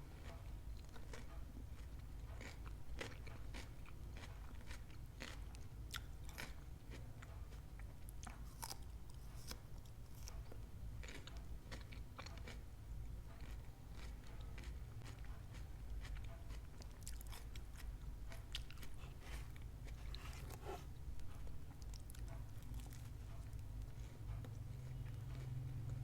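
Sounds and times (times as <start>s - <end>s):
chewing crunchy food: 0.1s - 26.0s.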